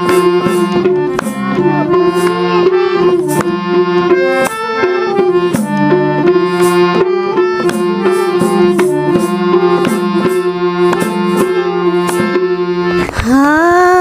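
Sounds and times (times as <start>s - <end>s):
hand drum strokes: 0.0s - 13.4s
held melody notes: 0.0s - 14.0s.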